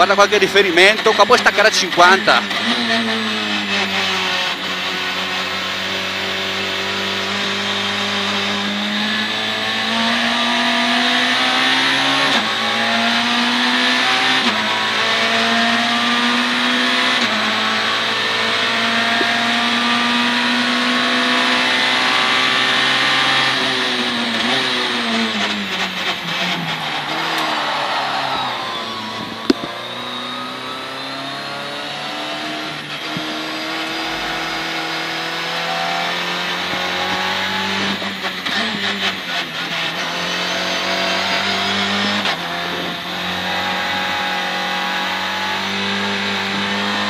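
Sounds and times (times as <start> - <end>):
car engine accelerating hard: 0.0 - 47.0.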